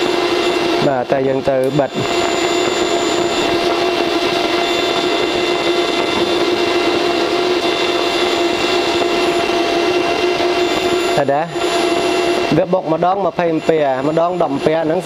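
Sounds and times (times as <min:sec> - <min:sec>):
constant hum: 0:00.0 - 0:15.0
cooling fan blowing: 0:00.0 - 0:15.0.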